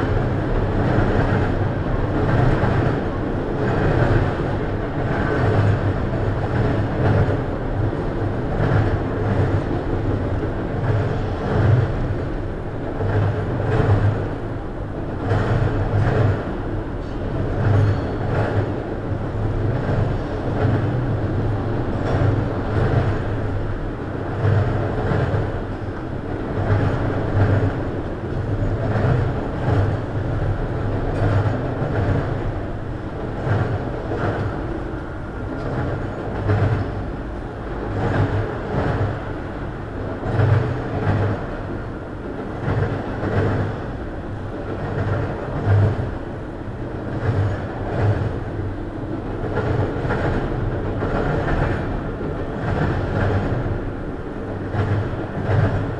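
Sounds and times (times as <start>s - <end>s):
freight train wheels rumbling: 0.0s - 55.9s
wheels clickety-clack: 0.0s - 55.9s.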